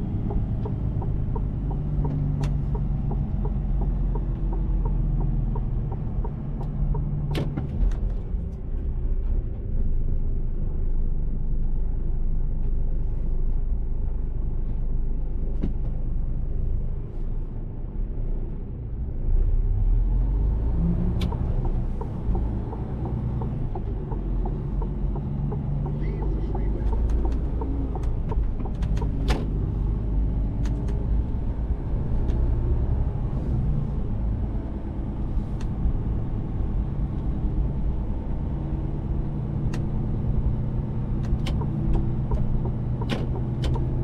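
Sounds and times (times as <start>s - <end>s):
road rumble: 0.0s - 44.0s
truck engine drone: 0.0s - 44.0s.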